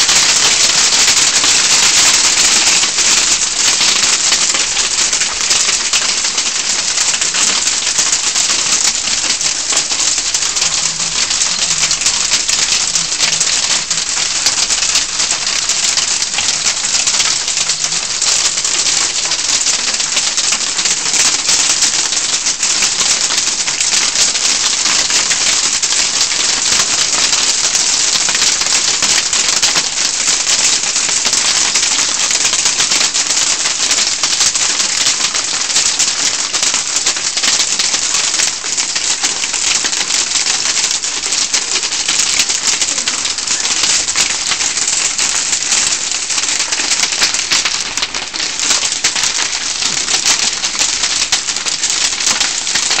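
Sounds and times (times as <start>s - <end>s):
hailstones pelting: 0.0s - 53.0s.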